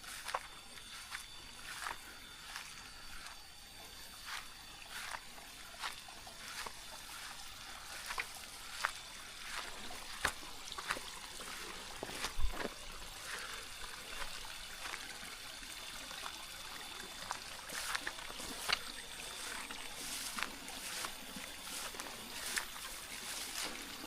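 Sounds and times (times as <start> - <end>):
crunching footsteps on path: 0.0 - 24.0
faint trickling water: 0.0 - 24.0.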